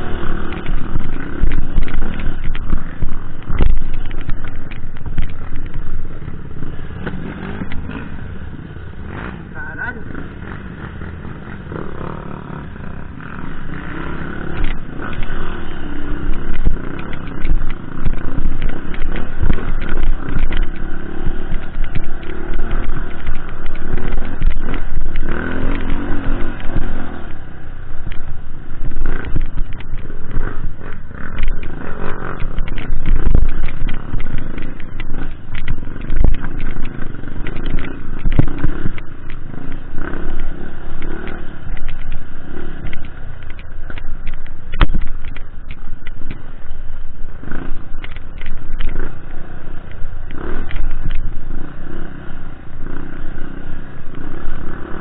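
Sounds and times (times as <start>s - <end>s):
clatter and knocks from bumps: 0.0s - 8.1s, 13.3s - 46.9s, 47.5s - 51.3s
wind buffeting microphone: 0.0s - 9.3s, 9.9s - 55.0s
dirt bike engine revving: 0.0s - 55.0s.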